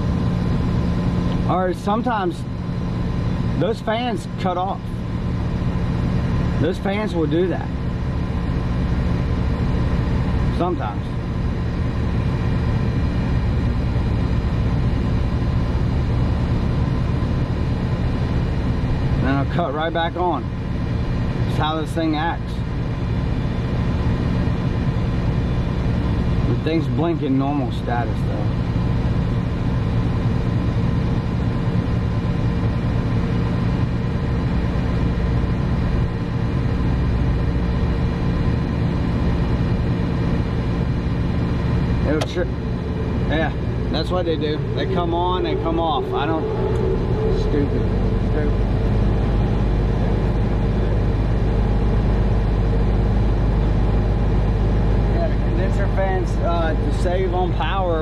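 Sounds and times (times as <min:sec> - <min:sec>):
air conditioning unit humming: 0:00.0 - 0:58.0.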